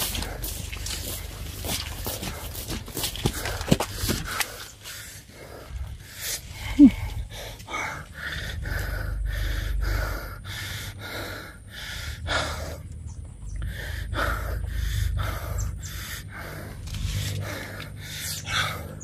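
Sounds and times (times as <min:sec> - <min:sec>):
low rumble: 0:00.0 - 0:19.0
man breathing hard: 0:00.0 - 0:19.0.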